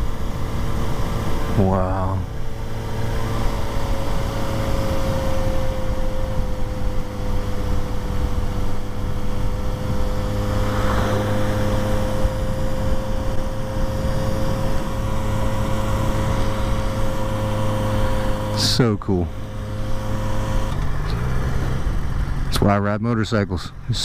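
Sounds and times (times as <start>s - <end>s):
engine whine over low hum: 0.0s - 24.0s.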